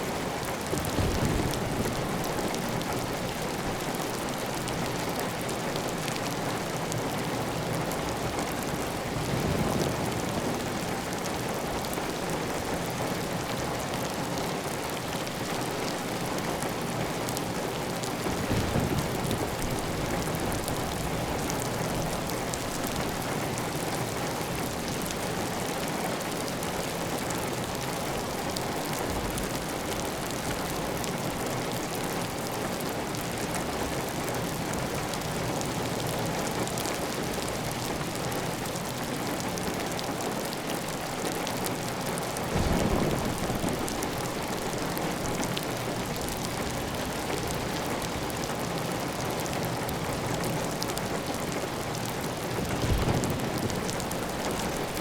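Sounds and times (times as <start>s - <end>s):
heavy rain on tiled roof: 0.0s - 55.0s.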